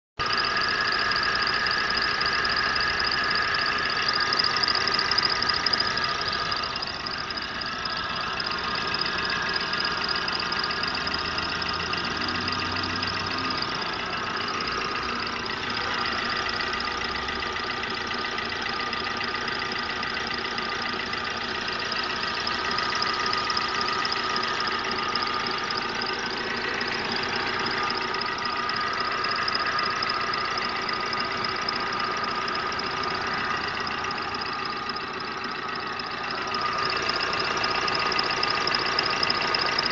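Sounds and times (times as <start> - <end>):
car engine idling with whines: 0.2 - 39.9.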